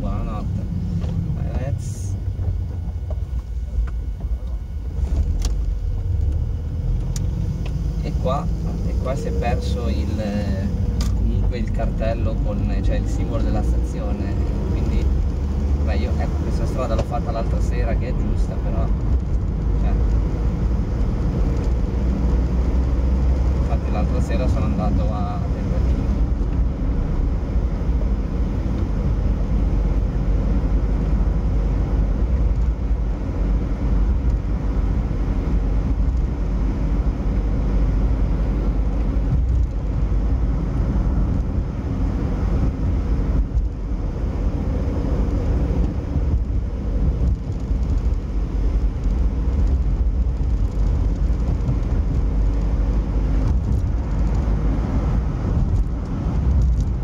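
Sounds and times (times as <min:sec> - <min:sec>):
road and engine noise in a car: 0:00.0 - 0:57.0.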